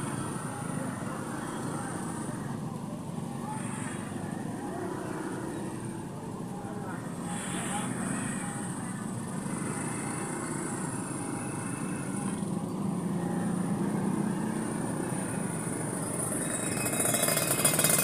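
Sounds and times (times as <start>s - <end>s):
road traffic and engines: 0.0s - 18.0s.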